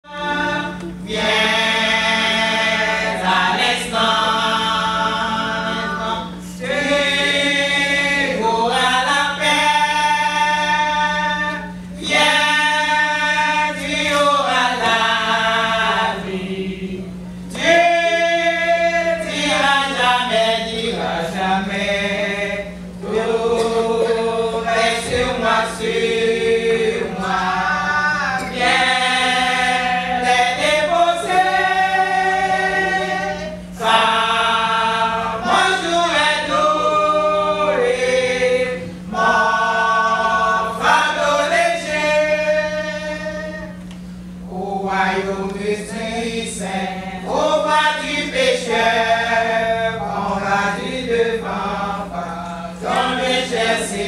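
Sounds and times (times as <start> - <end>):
women's choir singing: 0.0 - 43.8, 44.4 - 54.0
steady low hum: 0.0 - 54.0.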